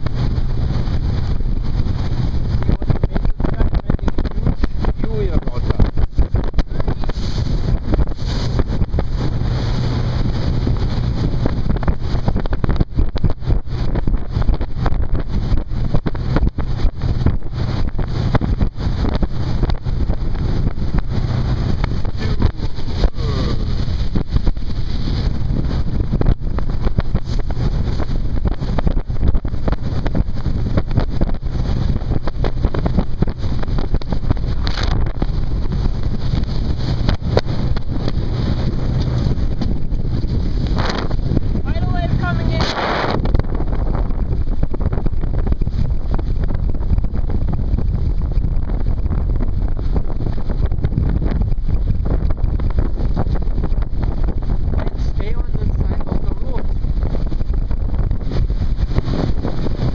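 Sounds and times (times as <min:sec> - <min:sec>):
outboard motor running: 0:00.0 - 0:59.9
wind buffeting microphone: 0:00.0 - 0:59.9.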